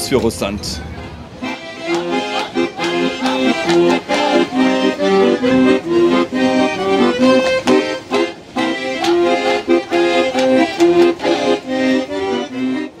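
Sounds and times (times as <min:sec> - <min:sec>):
accordion playing lively tune: 0:01.3 - 0:13.0.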